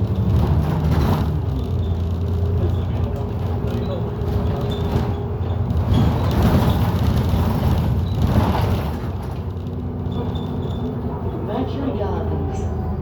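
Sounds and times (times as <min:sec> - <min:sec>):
bus engine under load: 0:00.0 - 0:13.0.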